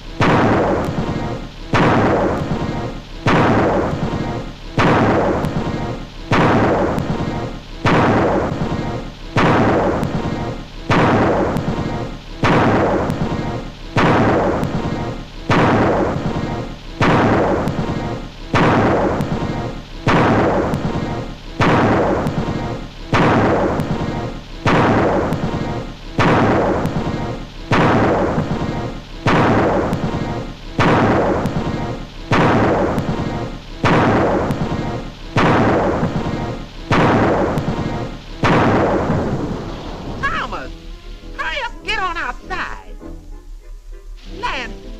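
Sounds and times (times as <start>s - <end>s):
cartoon thunderclap: 0.0s - 40.7s
music: 2.4s - 38.9s, 40.2s - 44.9s.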